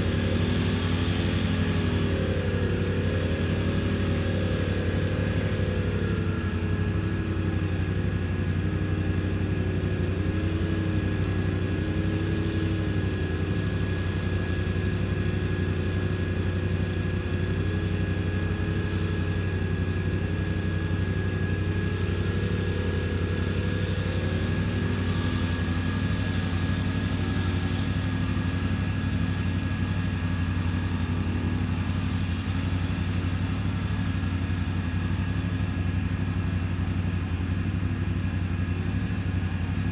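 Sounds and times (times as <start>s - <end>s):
atv engine revving: 0.0s - 39.9s
steady low hum: 0.0s - 39.9s
thin steady whine: 0.0s - 39.9s.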